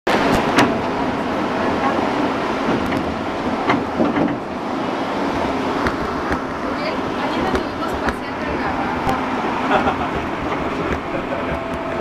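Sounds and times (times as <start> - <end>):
vehicle running noise: 0.1 - 12.0.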